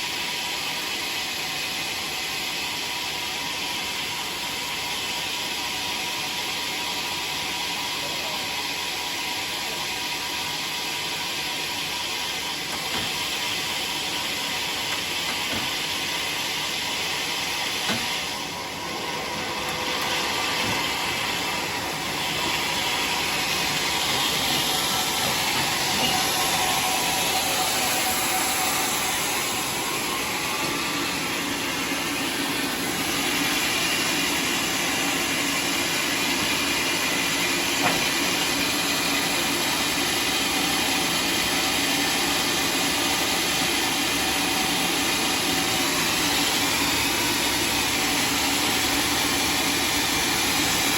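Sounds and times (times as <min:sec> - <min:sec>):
saw cutting through log: 0:07.6 - 0:50.9.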